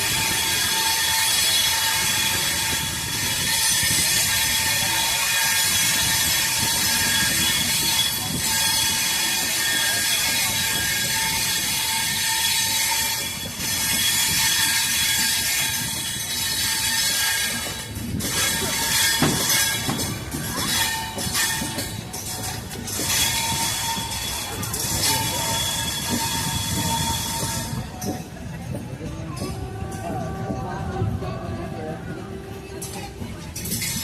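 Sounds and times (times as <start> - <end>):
running train rumble: 0.0 - 34.0
train wheels squealing on rails: 0.0 - 34.0.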